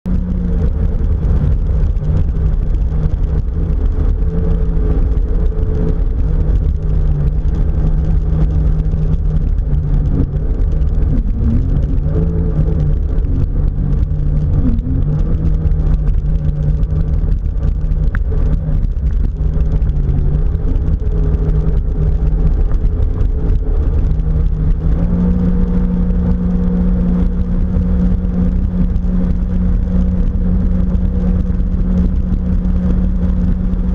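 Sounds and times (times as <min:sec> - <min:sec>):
jet ski engine running: 0:00.0 - 0:33.9.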